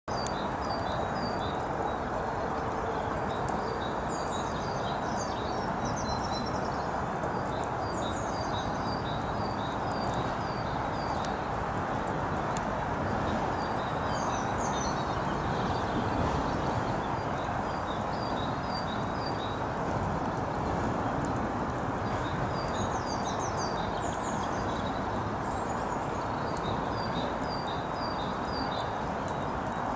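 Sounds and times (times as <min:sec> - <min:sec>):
songbirds chirping: 0:00.1 - 0:29.9.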